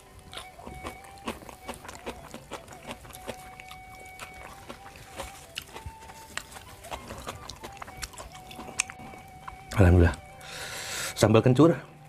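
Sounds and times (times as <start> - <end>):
small crunches while eating: 0.0 - 10.6
wet chewing and lip-smacking: 0.0 - 11.1.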